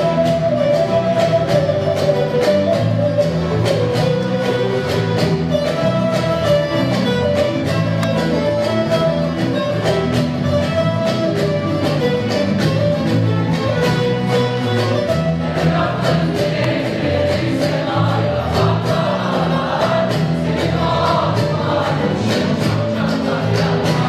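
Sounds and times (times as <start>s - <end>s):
ensemble of lutes strumming: 0.0s - 24.0s.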